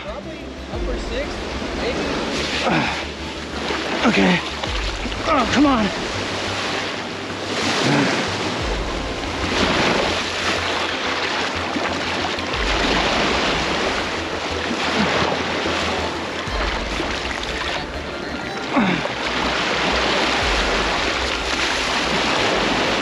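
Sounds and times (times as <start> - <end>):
wind rumbling on microphone: 0.0 - 23.0
surf breaking on beach: 0.8 - 23.0.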